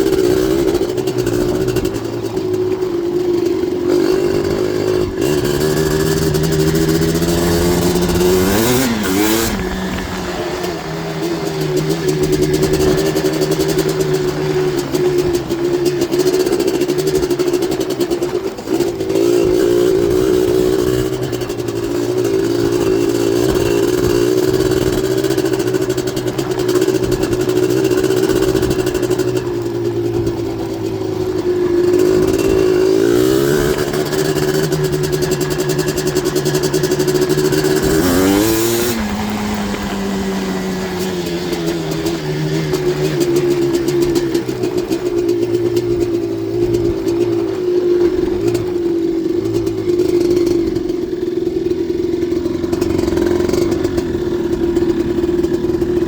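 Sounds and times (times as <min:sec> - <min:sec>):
two-stroke engine revving high: 0:00.0 - 0:56.0.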